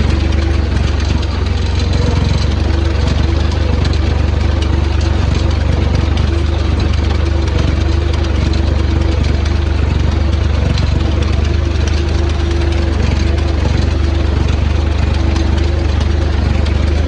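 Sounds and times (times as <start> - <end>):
tractor engine humming: 0.0 - 17.0.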